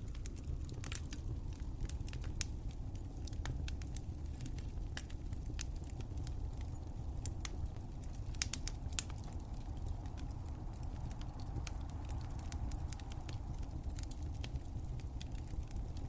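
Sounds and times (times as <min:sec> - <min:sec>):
low rumble of fire: 0:00.0 - 0:16.0
wood fire crackling and popping: 0:00.0 - 0:16.0.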